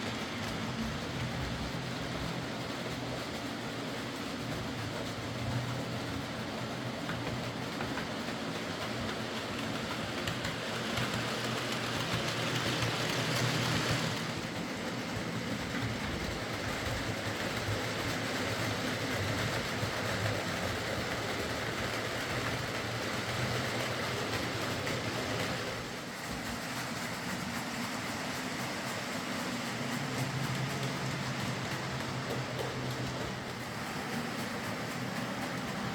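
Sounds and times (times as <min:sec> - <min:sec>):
wheels rolling on rails: 0:00.0 - 0:35.9.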